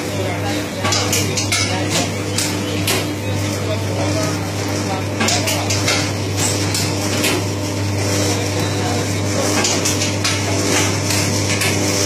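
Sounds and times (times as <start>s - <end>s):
machine motor hum: 0.0s - 12.0s.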